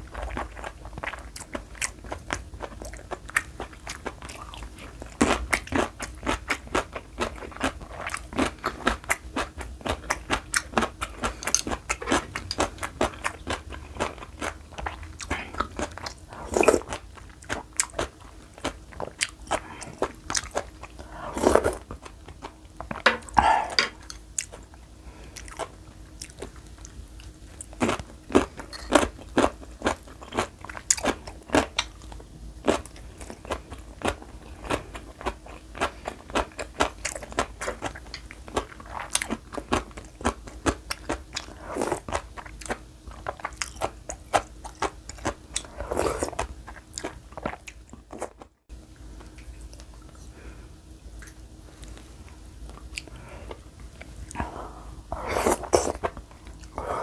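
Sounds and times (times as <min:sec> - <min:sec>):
person chewing and eating: 0:00.0 - 0:48.6, 0:49.2 - 0:57.0.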